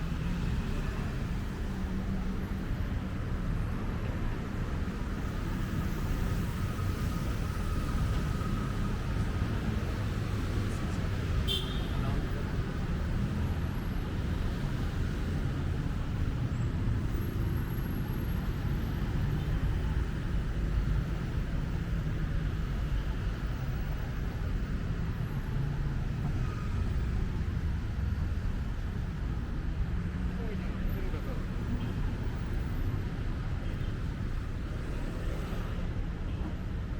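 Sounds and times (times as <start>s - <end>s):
city traffic rumble: 0.0s - 36.9s.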